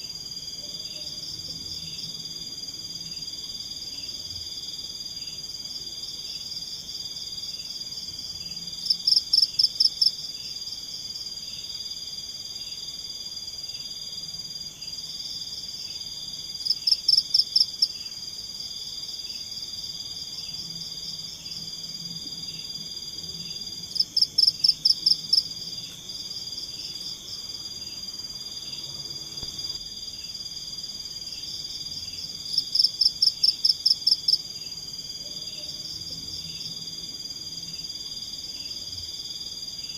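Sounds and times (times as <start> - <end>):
insects and frogs droning: 0.0 - 39.9.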